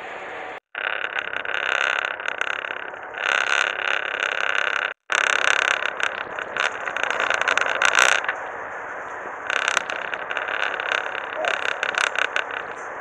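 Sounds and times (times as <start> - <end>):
fishing reel motor whining: 0.6 - 8.4, 9.4 - 13.0
reel ticking: 0.6 - 13.0.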